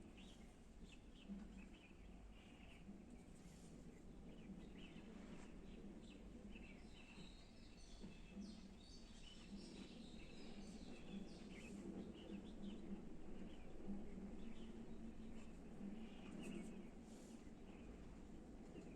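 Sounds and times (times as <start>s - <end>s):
birds chirping: 0.0s - 18.9s
low steady hum: 0.0s - 18.9s.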